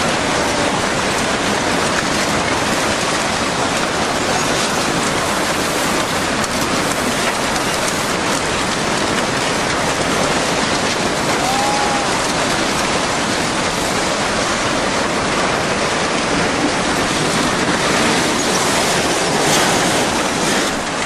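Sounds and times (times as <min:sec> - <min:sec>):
roar of churning floodwater: 0:00.0 - 0:21.0.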